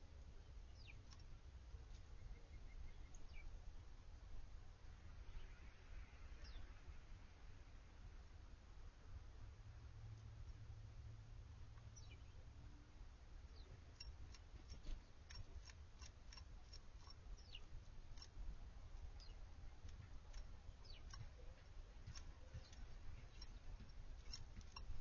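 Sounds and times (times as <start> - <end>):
songbirds chipping: 0.0 - 7.3, 11.7 - 25.0
faint low rumble: 0.0 - 25.0.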